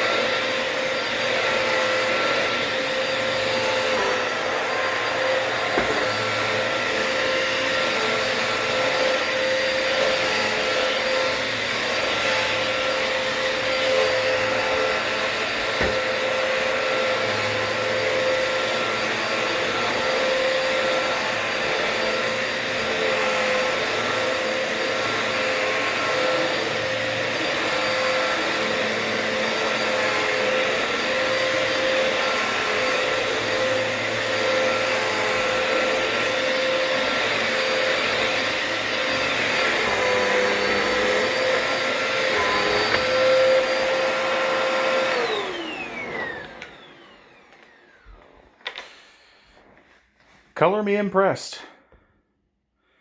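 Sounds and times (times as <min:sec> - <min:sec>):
vacuum cleaner running: 0:00.0 - 0:50.8.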